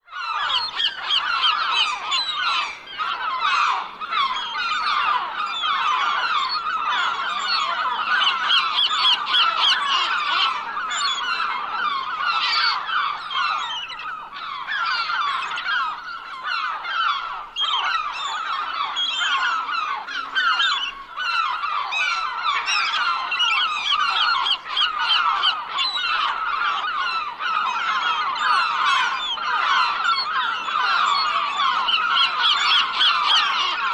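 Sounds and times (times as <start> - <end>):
flock of gulls squawking: 0.0 - 33.9.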